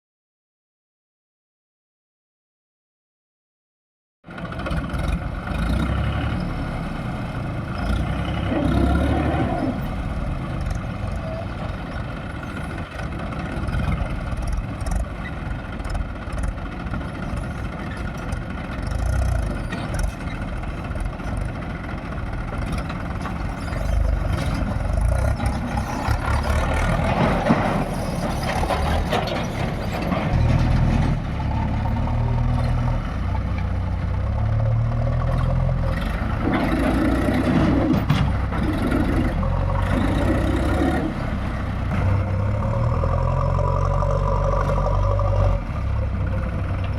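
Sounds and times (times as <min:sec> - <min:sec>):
diesel engine under load: 0:04.3 - 0:46.9.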